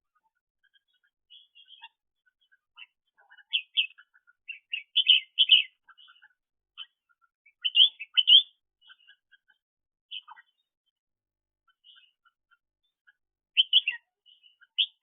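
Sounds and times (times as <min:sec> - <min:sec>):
bird chirping: 0:00.0 - 0:11.0, 0:11.6 - 0:15.0.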